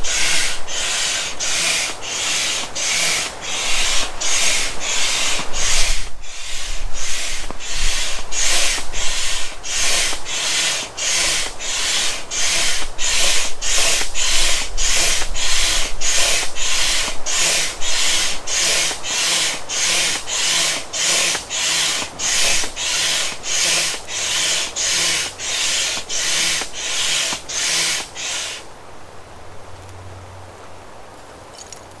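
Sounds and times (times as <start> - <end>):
rhythmic hissing strokes: 0.0 - 28.6.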